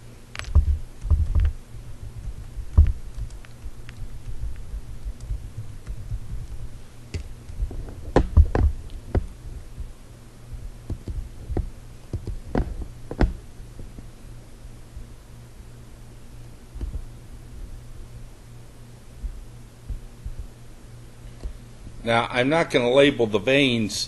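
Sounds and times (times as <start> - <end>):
low hum: 0.0 - 23.4.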